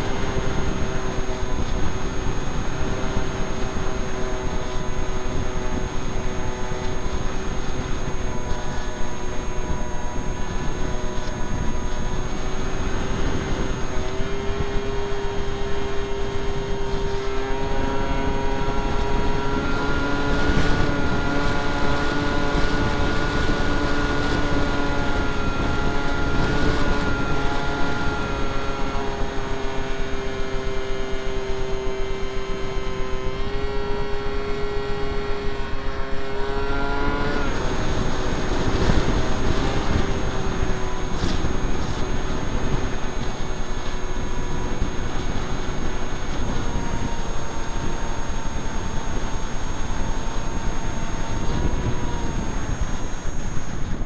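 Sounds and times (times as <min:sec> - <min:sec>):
electric motor whine: 0:00.0 - 0:54.0
second motor whine: 0:00.0 - 0:54.0
wind noise: 0:00.0 - 0:54.0.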